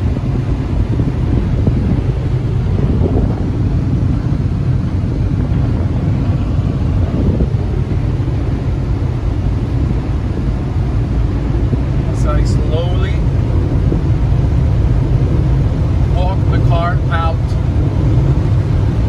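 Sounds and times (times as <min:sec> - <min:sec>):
air-jet dryers blowing: 0:00.0 - 0:19.0.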